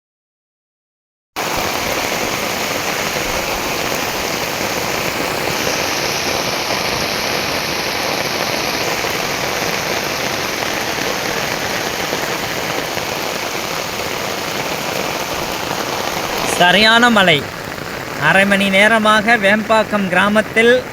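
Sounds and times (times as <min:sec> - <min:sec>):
heavy rain pouring: 0:01.4 - 0:20.9.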